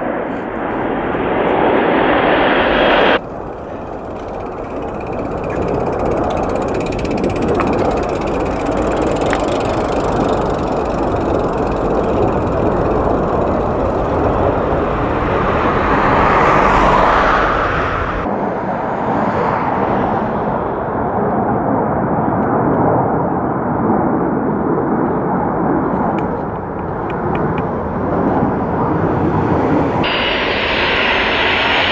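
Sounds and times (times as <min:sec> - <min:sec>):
jet aircraft engine rushing: 0:00.0 - 0:31.9.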